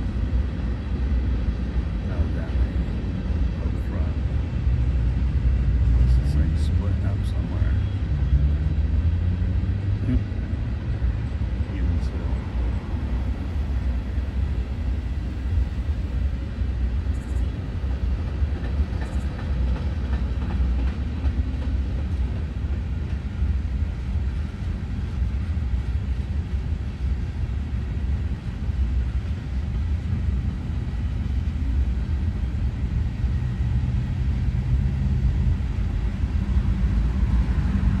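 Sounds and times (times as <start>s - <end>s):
freight train wheels rumbling on rail: 0.0s - 38.0s.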